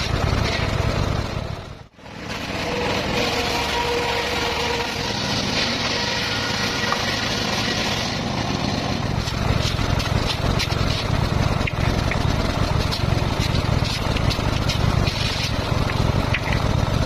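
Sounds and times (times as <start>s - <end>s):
circular saw cutting bamboo: 2.0s - 17.0s.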